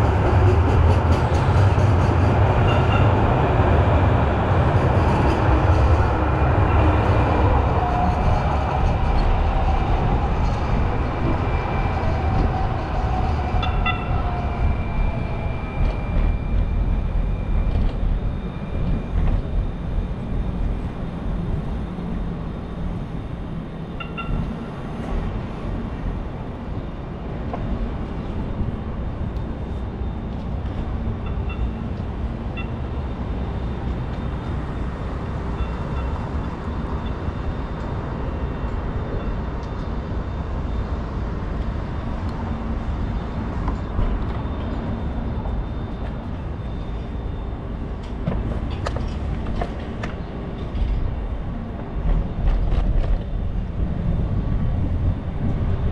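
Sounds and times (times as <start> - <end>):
bicycle road and wind noise: 0.0 - 55.9.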